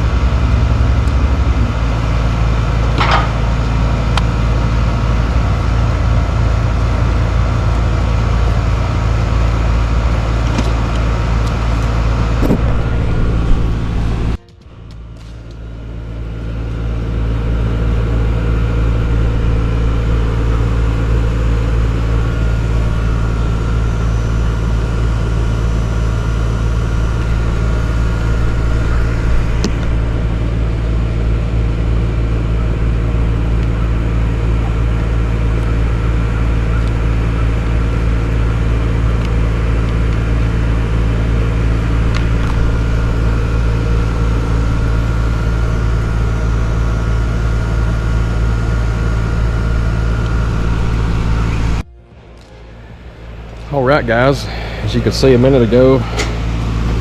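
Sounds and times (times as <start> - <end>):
hvac machinery humming: 0.0 - 57.0.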